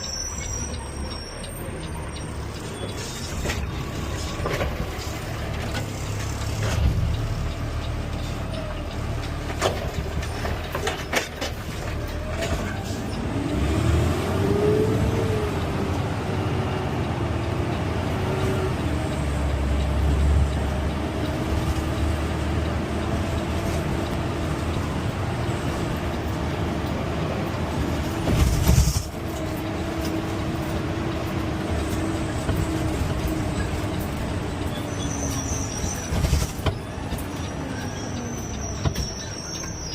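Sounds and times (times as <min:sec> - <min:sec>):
garbage truck running: 0:00.0 - 0:39.9.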